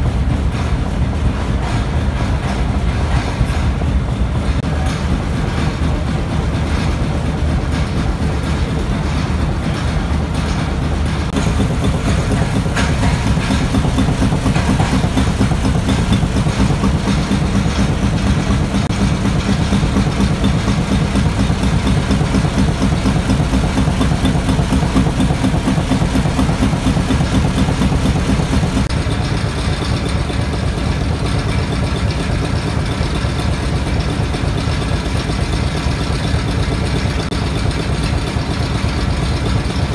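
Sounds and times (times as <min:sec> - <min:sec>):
stationary engines running: 0:00.0 - 0:39.9.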